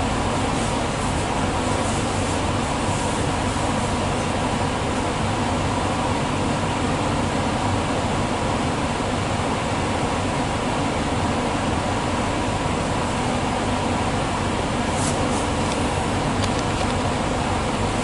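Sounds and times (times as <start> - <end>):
train cabin rumble and hiss: 0.0 - 18.0.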